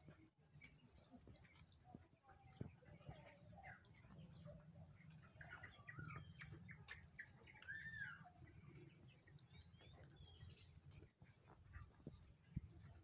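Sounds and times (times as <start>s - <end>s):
faint bird chirps and calls: 0.0s - 13.0s.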